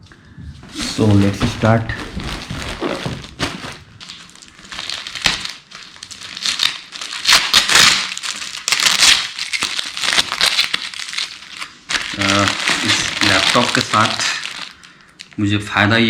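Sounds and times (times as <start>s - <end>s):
plastic and cardboard crinkling: 0.6s - 15.2s.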